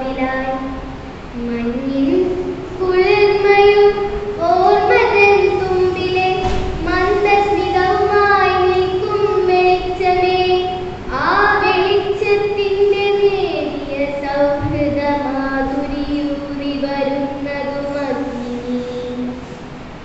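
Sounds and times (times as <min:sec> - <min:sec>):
girl chanting a poem: 0:01.4 - 0:19.4.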